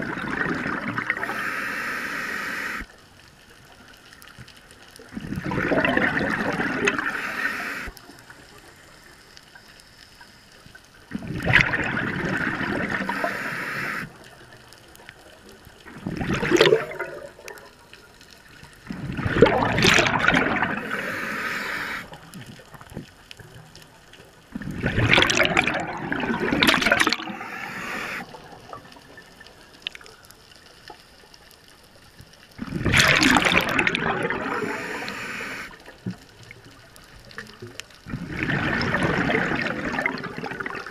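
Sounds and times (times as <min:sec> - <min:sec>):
underwater air bubbling: 0:00.0 - 0:02.9, 0:04.9 - 0:09.2, 0:10.8 - 0:31.0, 0:32.3 - 0:40.9.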